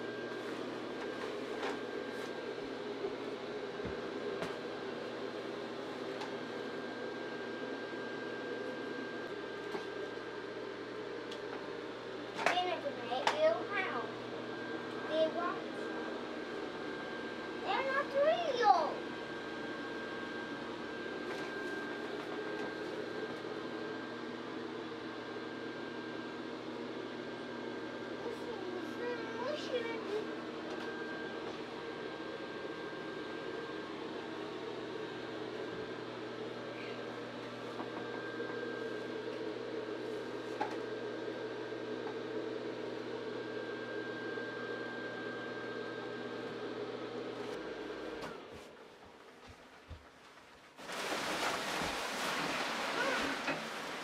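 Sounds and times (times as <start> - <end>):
blower fan drone with whine: 0.0 - 50.1.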